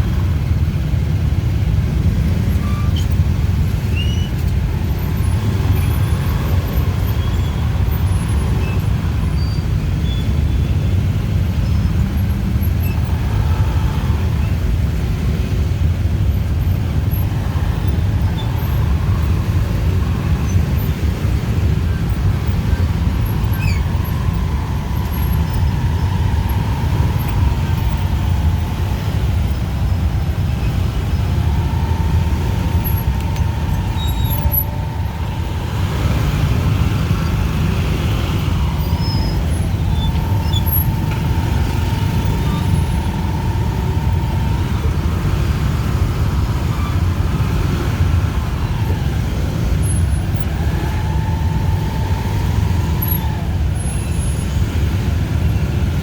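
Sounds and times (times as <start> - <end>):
engines and tyres rumbling: 0.0 - 56.0.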